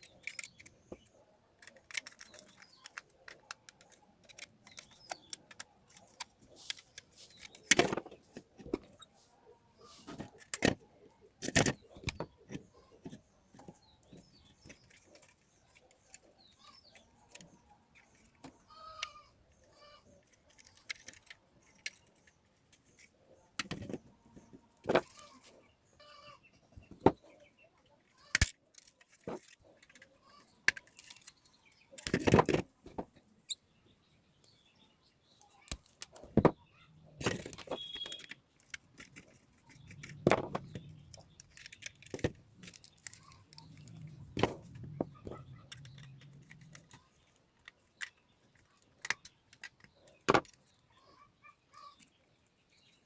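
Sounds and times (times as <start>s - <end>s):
hands handling wires and plastic: 0.0s - 25.7s, 26.6s - 33.3s, 35.4s - 51.2s.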